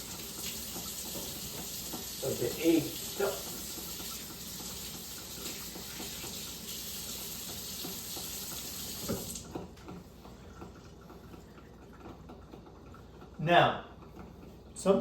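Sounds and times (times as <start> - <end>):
kitchen tap running: 0.0 - 15.0.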